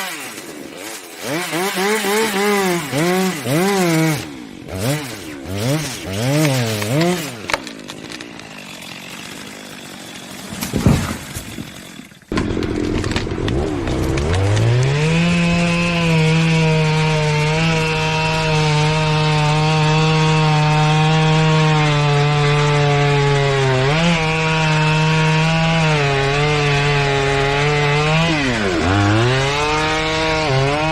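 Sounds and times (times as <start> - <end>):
chainsaw revving and cutting: 0.0 - 30.9.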